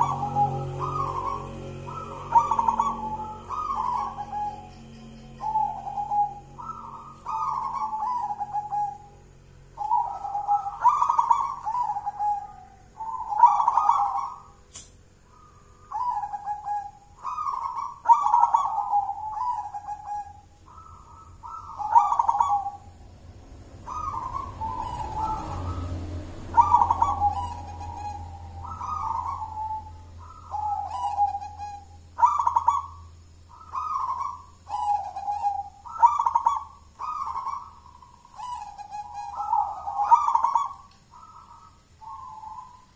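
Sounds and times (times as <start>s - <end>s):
dove cooing: 0.0s - 42.9s.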